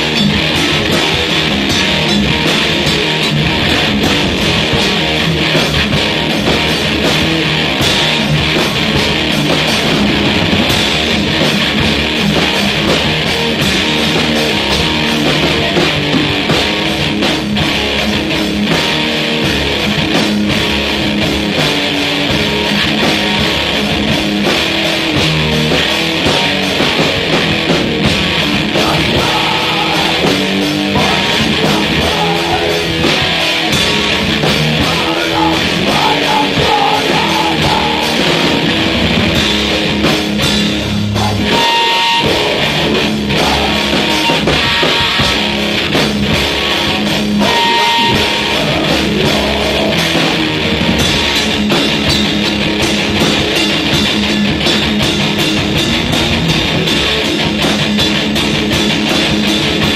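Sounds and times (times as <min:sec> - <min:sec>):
heavy rock music: 0:00.0 - 0:59.9.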